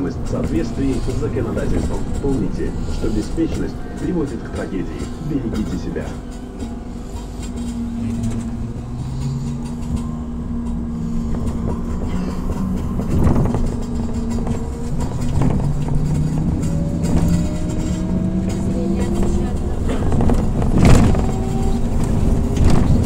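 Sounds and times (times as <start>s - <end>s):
body knocks and rattles: 3.5s - 23.0s.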